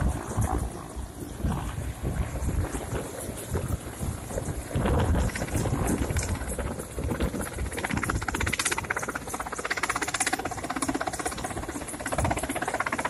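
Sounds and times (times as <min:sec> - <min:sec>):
helicopter rotor beating: 0:00.0 - 0:13.0
wind buffeting microphone: 0:00.0 - 0:13.0.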